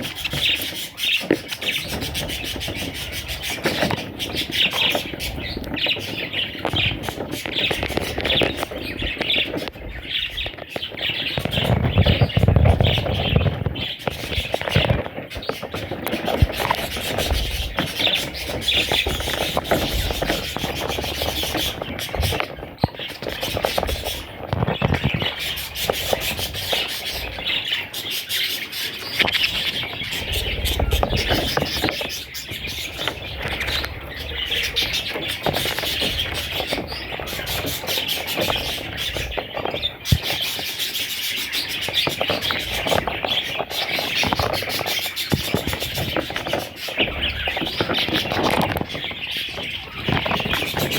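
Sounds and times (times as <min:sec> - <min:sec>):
budgerigar chicks chattering: 0:00.0 - 0:50.9.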